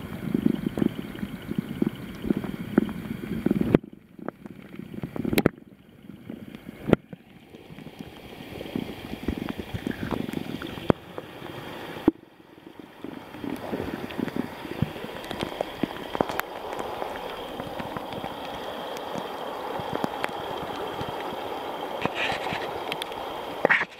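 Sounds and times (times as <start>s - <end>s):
water gurgling and sloshing: 0.0s - 23.9s
small crackling clicks: 0.1s - 23.9s.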